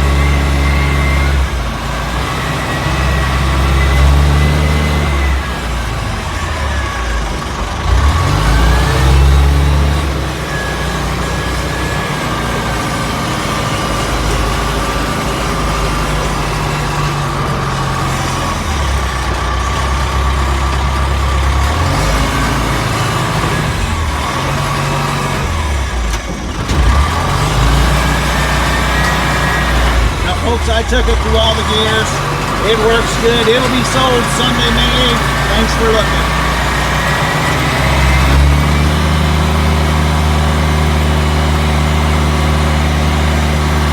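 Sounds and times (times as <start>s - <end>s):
diesel engine shifting gears: 0.0s - 43.9s.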